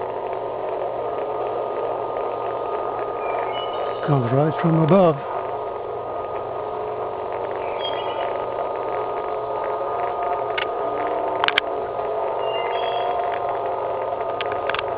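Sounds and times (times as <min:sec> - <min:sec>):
droning hum of held tones: 0:00.0 - 0:14.9.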